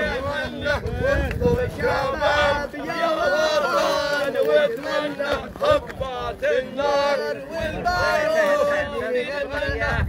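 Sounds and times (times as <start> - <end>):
crowd chanting and shouting: 0.0 - 10.0.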